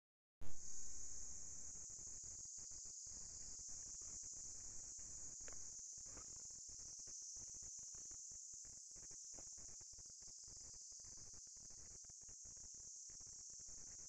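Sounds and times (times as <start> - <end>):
insect chorus shrilling: 0.6 - 12.2.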